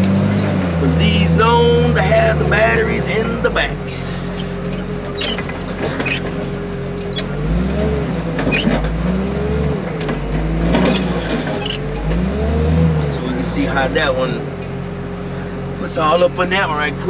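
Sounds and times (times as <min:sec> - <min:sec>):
hydraulic whine: 0:00.0 - 0:15.6
heavy loader engine revving: 0:00.0 - 0:17.0.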